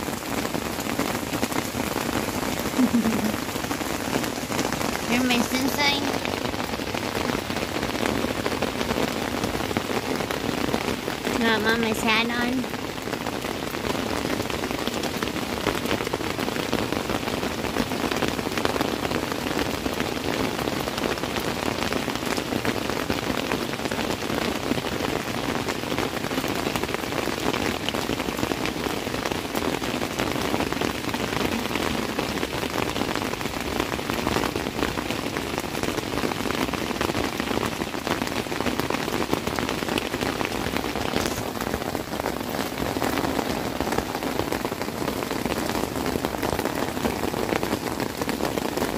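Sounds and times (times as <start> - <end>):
heavy rain on a tent: 0.0 - 48.9.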